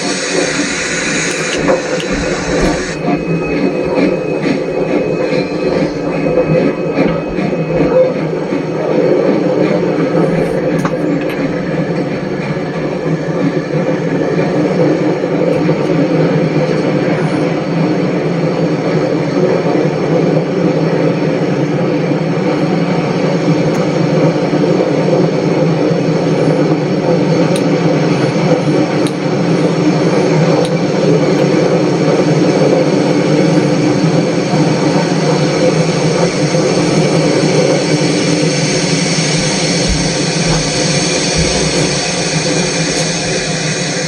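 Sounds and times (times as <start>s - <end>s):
droning hum: 0.0s - 44.0s
train rumbling: 0.0s - 44.0s.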